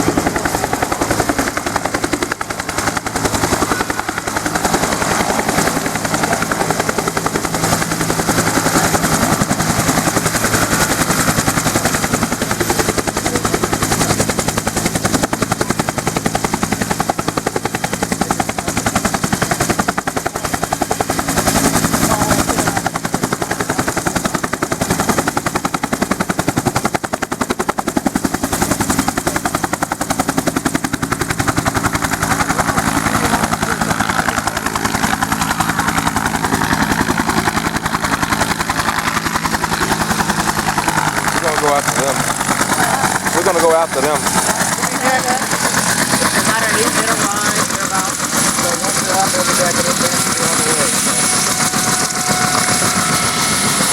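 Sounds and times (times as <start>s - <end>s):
helicopter engine drone: 0.0s - 53.9s
helicopter rotor chopping: 0.0s - 53.9s.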